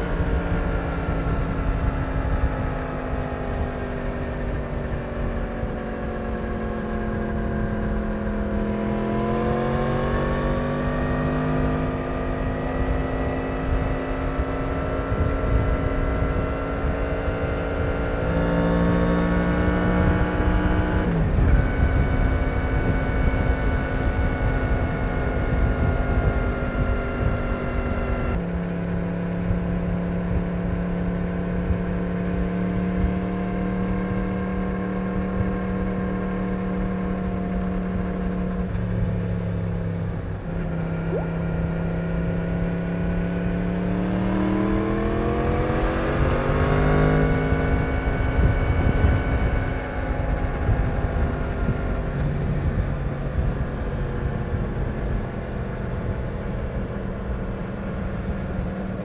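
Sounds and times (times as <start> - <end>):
motorcycle engine riding on road: 0.0 - 59.0.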